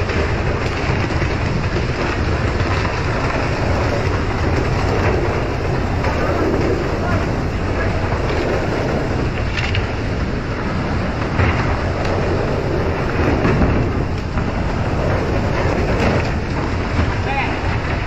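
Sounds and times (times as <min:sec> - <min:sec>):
boat engine rumble: 0:00.0 - 0:18.0
water spraying: 0:00.0 - 0:18.0
wind on microphone: 0:00.0 - 0:18.0.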